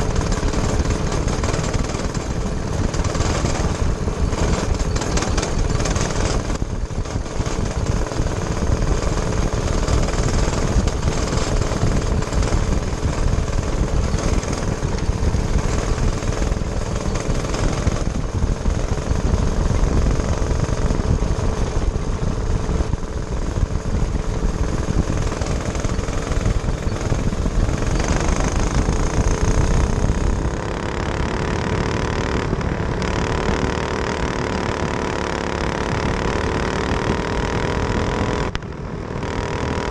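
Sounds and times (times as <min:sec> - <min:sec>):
racing kart engine running hard: 0:00.0 - 0:39.9
wind noise on microphone: 0:00.0 - 0:39.9.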